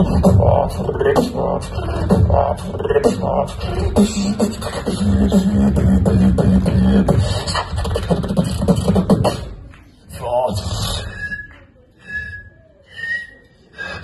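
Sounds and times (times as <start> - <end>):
person beatboxing: 0.0 - 14.0.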